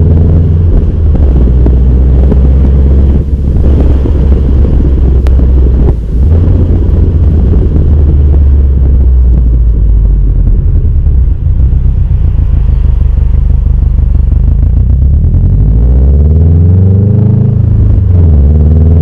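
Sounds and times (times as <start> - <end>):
car exhaust running and revving: 0.0 - 19.0.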